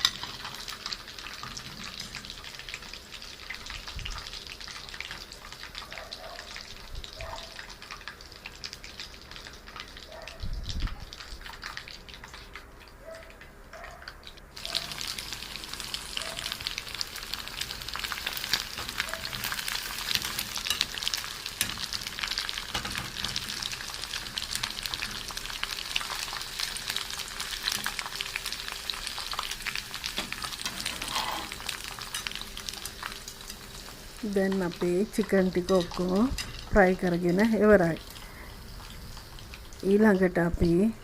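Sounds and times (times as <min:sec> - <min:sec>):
chicken frying in hot oil: 0:00.0 - 0:41.0.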